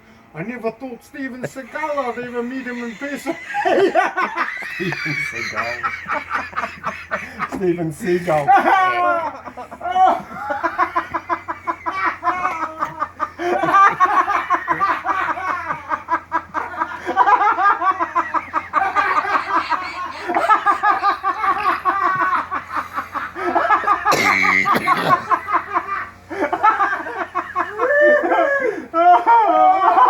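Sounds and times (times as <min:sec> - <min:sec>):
people laughing hard: 0:01.2 - 0:30.0.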